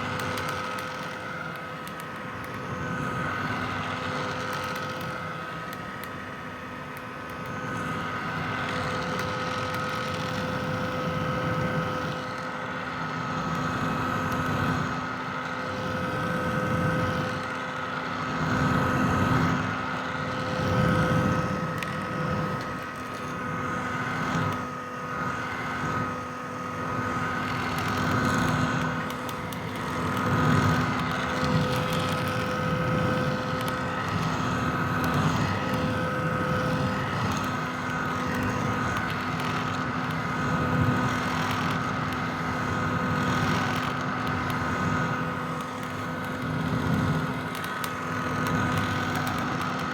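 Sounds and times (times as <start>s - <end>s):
hair dryer running: 0.0s - 49.9s.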